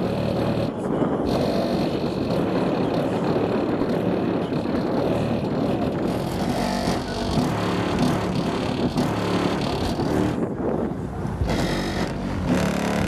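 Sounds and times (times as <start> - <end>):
bass music from car subwoofers: 0.0 - 13.0.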